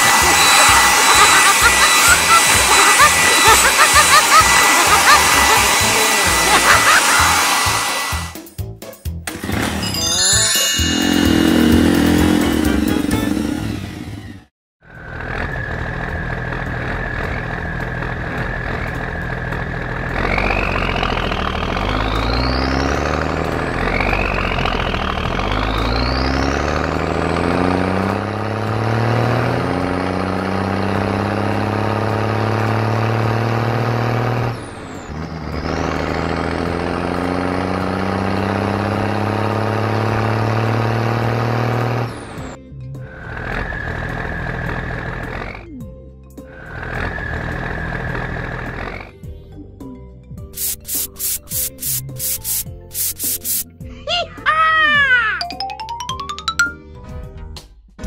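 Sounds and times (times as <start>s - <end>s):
cartoon heavy vehicle engine revving: 0.0s - 8.4s, 9.2s - 49.4s.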